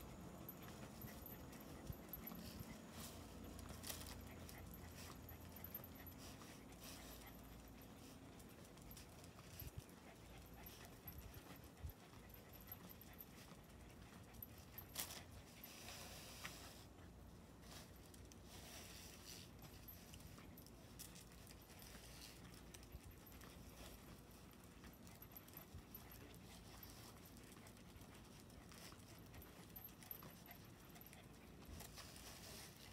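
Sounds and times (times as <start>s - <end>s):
dog panting: 0.0s - 32.9s.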